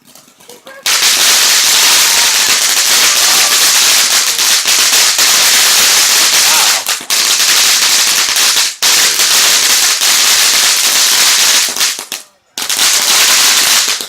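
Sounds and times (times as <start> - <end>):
firework fountain crackling: 0.0 - 14.0.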